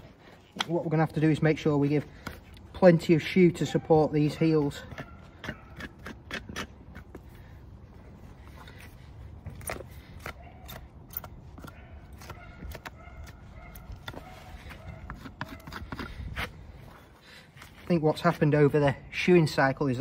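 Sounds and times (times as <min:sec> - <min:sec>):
knife scraping hoof: 0:00.0 - 0:18.6.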